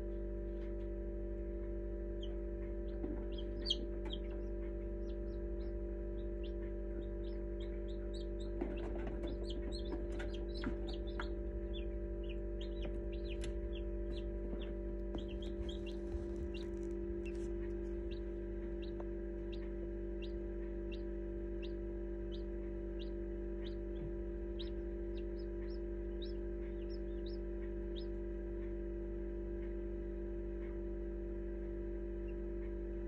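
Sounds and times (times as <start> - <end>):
incubator hum: 0.0 - 33.0
chicks peeping: 1.7 - 30.8.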